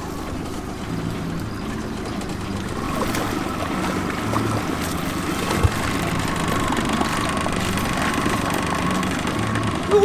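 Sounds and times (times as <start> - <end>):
outboard motor humming: 0.0 - 10.0
water washing around hull: 0.0 - 10.0.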